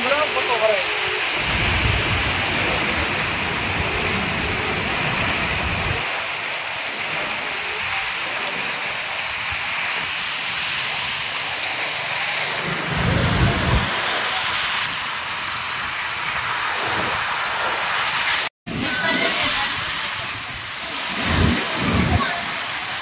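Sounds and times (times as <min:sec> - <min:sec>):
heavy rain on water and pavement: 0:00.0 - 0:23.0.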